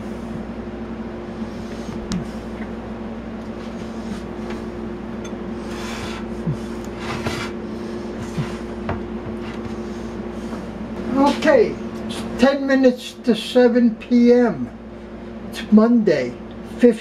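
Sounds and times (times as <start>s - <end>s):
low hum with higher tone: 0.0s - 17.0s.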